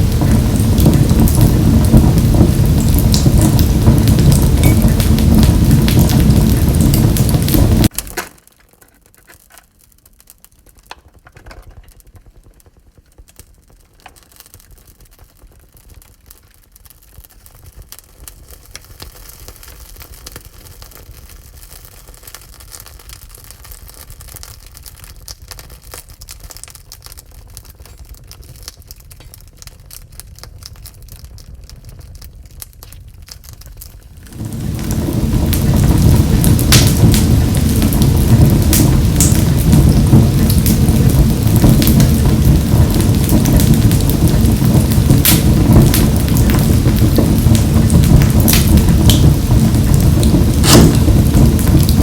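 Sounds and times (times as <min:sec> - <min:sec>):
fire pops and snaps: 0:00.0 - 0:52.0
low rumble of flames: 0:00.0 - 0:52.0.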